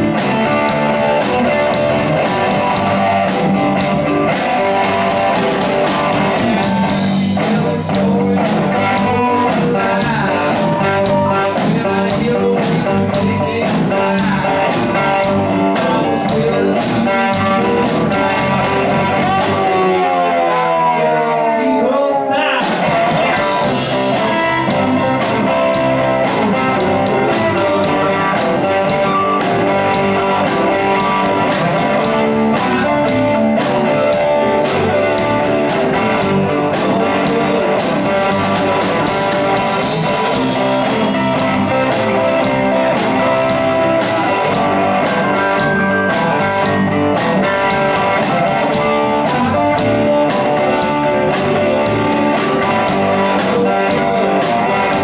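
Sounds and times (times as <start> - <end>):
steady drum beat: 0.0 - 20.0, 22.6 - 55.0
electric guitar: 0.0 - 55.0
rock band playing: 0.0 - 55.0.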